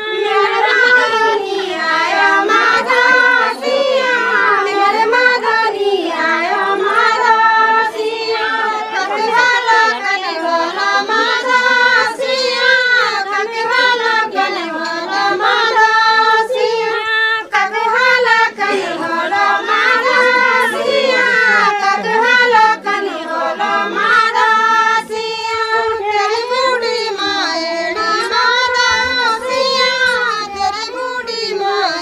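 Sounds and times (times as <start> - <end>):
women singing in unison: 0.0 - 32.0.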